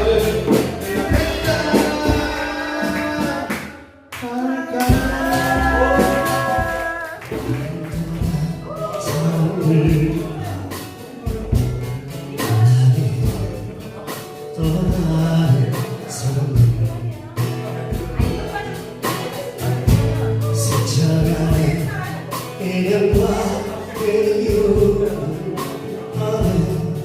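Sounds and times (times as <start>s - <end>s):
person singing: 0.0s - 11.6s, 12.4s - 17.8s, 18.6s - 27.0s
acoustic guitars strumming: 0.0s - 27.0s.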